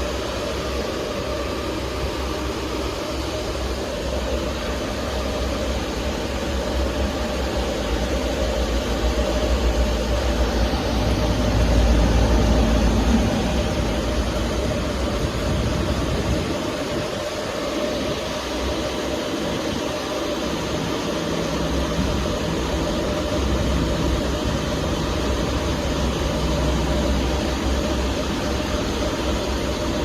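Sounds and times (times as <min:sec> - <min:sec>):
washing machine humming and rushing: 0:00.0 - 0:30.0.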